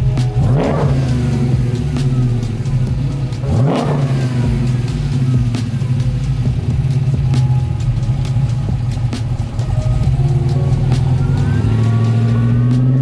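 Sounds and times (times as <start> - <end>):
car engine idling: 0.0 - 13.0
engine throttle blip: 0.2 - 13.0.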